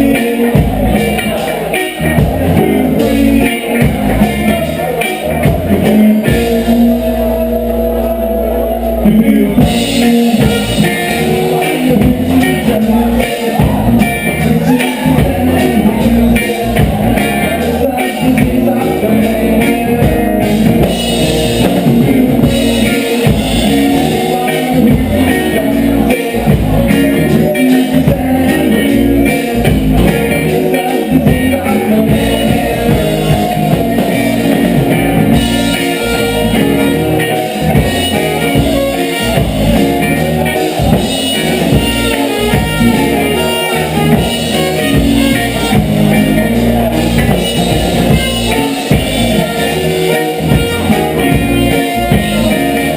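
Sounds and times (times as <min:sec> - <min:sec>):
reggae band playing: 0:00.0 - 0:52.9.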